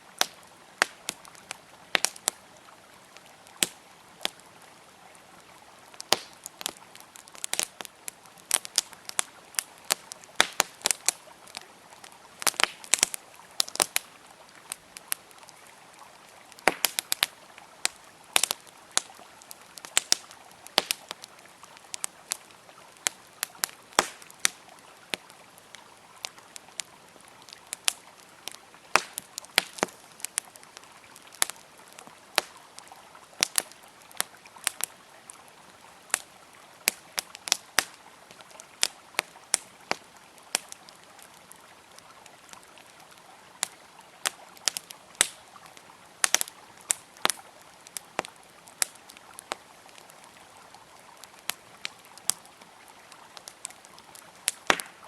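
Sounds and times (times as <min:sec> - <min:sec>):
flowing water: 0:00.0 - 0:55.0
wood fire crackling and popping: 0:00.1 - 0:35.4, 0:36.0 - 0:55.0.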